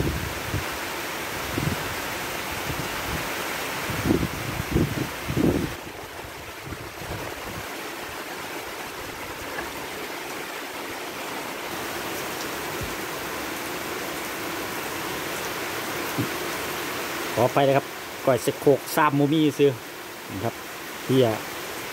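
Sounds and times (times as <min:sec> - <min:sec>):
running water hiss: 0:00.0 - 0:21.9.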